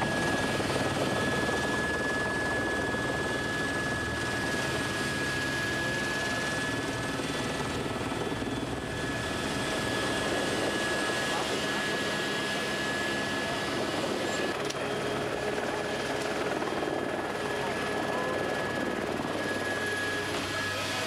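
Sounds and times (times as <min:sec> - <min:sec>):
helicopter rotor and engine: 0:00.0 - 0:21.0.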